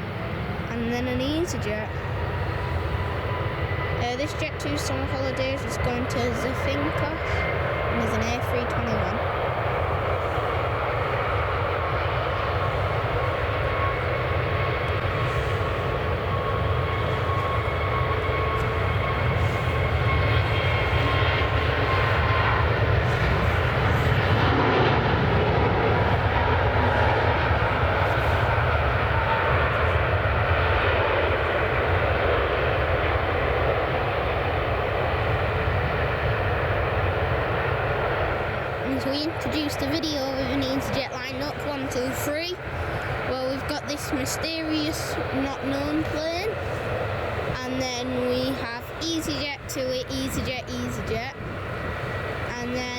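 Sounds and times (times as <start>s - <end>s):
faint engine whine: 0.0s - 52.9s
jet engines rushing: 0.0s - 52.9s.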